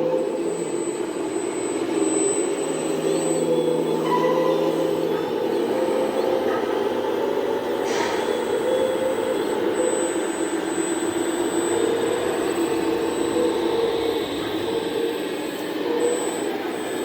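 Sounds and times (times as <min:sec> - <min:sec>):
model motor whine: 0:00.0 - 0:17.0.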